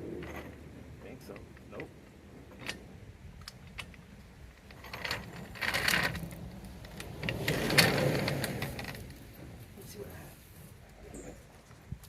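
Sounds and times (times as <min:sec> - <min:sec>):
metal rattling and scraping: 0:00.0 - 0:11.6.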